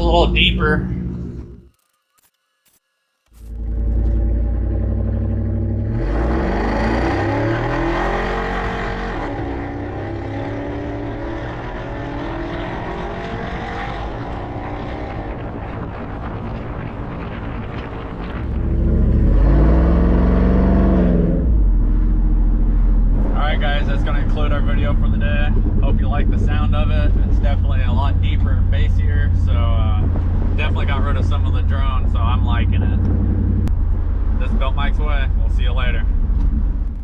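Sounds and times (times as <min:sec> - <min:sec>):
engine revving through exhaust: 0:03.4 - 0:15.6, 0:18.4 - 0:37.0.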